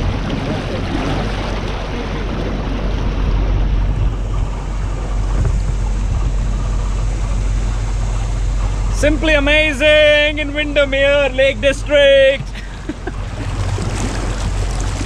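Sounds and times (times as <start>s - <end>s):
motorboat engine running: 0.0s - 15.0s
water rushing past hull: 0.0s - 15.0s
wind buffeting microphone: 0.0s - 15.0s.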